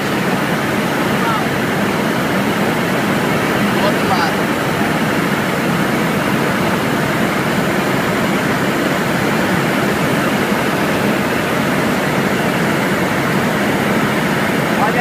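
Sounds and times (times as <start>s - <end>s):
helicopter engine and rotor noise: 0.0s - 15.0s.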